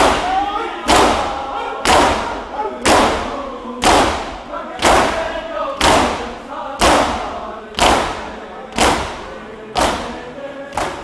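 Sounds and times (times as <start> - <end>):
hands slapping chests in unison: 0.0 - 11.0
voices chanting faintly: 0.0 - 11.0.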